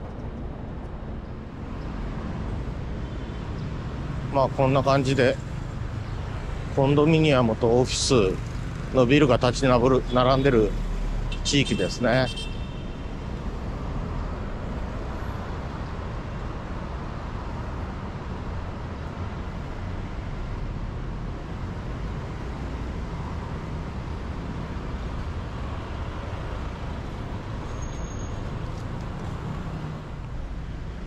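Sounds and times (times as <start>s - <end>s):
city street traffic rumble: 0.0s - 31.0s.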